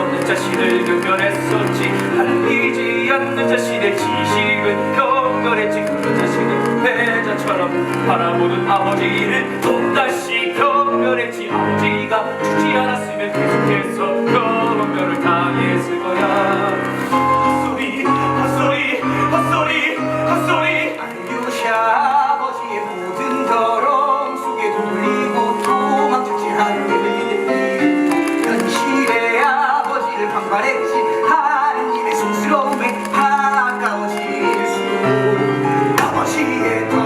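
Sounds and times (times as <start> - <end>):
instrumental accompaniment: 0.0 - 37.0
person singing with vibrato: 0.0 - 37.0.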